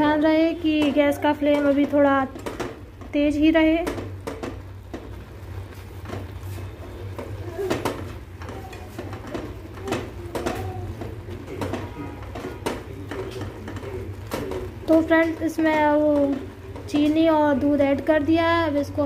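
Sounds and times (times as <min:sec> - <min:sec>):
spatula scraping frying pan: 0:00.0 - 0:18.2.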